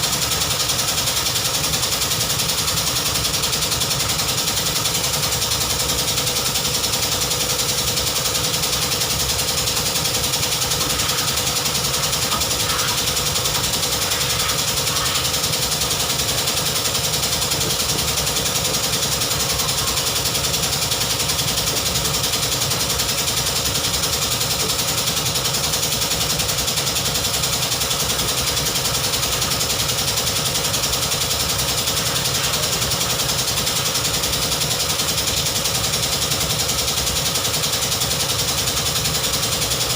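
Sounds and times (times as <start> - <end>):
car engine idling: 0.1 - 39.7.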